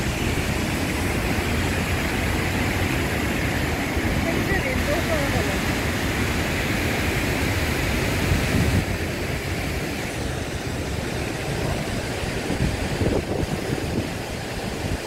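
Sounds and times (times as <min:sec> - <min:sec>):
falling water rushing hiss: 0:00.0 - 0:15.0
wind buffeting microphone: 0:00.0 - 0:15.0.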